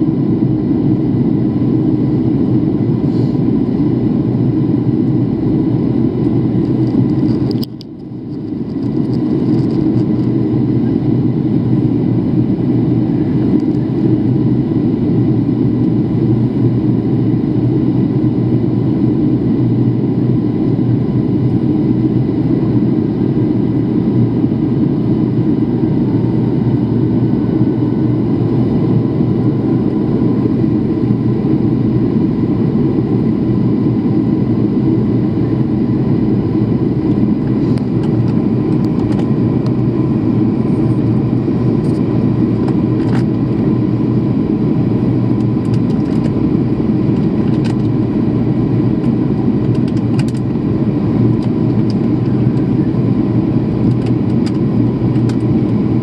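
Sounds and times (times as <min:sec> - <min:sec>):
faint steady whine: 0:00.0 - 0:56.0
jet airliner cabin drone: 0:00.0 - 0:56.0.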